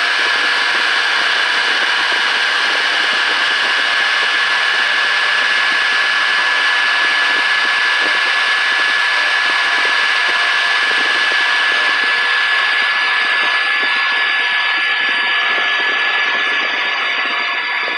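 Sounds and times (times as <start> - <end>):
milling machine high whine: 0.0 - 17.9.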